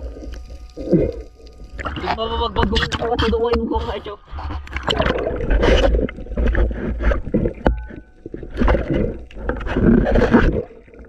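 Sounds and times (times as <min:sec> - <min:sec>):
water rushing underwater: 0:00.0 - 0:11.0.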